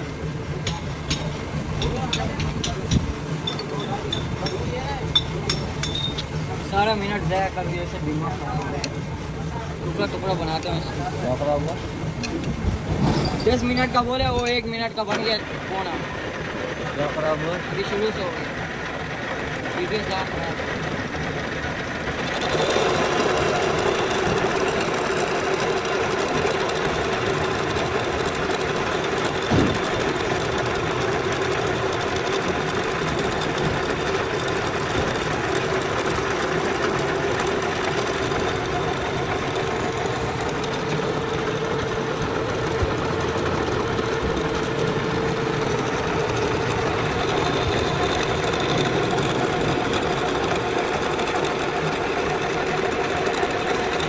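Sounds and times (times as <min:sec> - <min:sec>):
lathe whirring: 0:00.0 - 0:54.0.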